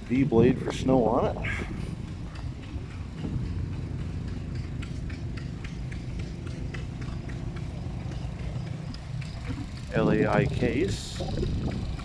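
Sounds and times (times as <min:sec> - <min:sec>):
engine humming: 0:00.0 - 0:12.0
light ticking: 0:02.1 - 0:12.0.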